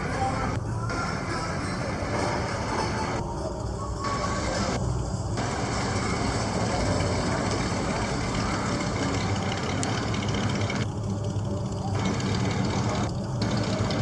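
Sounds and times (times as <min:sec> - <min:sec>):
car engines running: 0:00.0 - 0:14.0
vehicles passing: 0:00.0 - 0:14.0.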